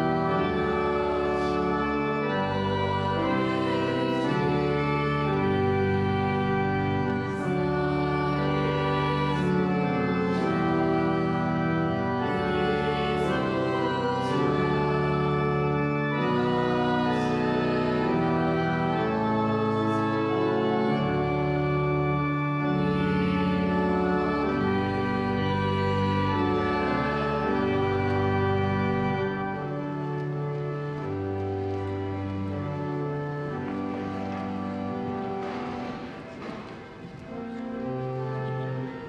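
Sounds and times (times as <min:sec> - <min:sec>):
church organ playing a hymn: 0:00.0 - 0:39.0.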